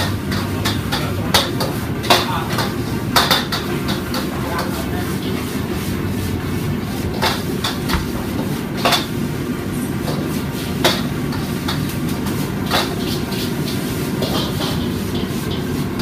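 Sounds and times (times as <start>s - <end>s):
low rumble from wok station: 0.0s - 16.0s.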